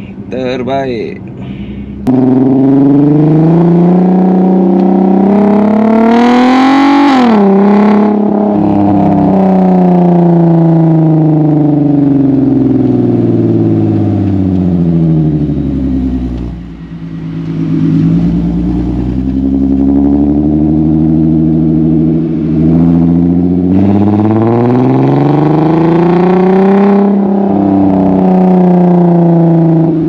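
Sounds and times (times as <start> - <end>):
car exhaust revving: 1.2 - 30.0.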